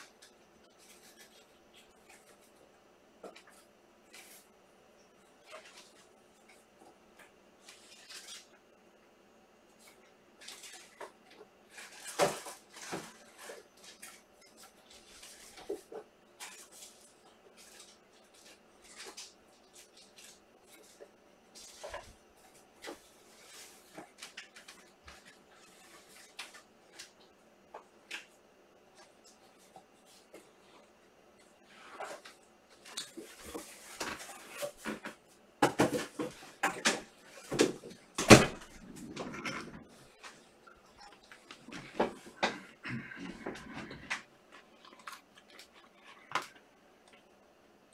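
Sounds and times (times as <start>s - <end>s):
rustling and crinkling of wrappers: 7.2s - 8.7s, 9.7s - 47.6s.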